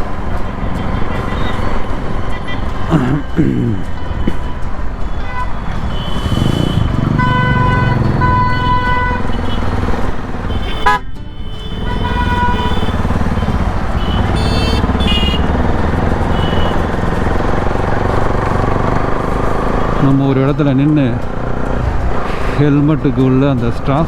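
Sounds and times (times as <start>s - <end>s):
vehicle horns tooting: 0.0s - 22.4s
motorcycle running: 0.0s - 24.0s
road and wind noise: 0.0s - 24.0s.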